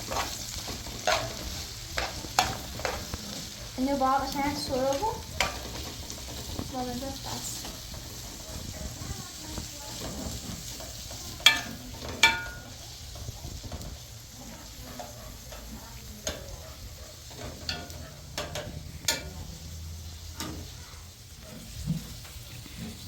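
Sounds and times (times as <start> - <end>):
metal utensils clinking on pots: 0.0 - 23.0.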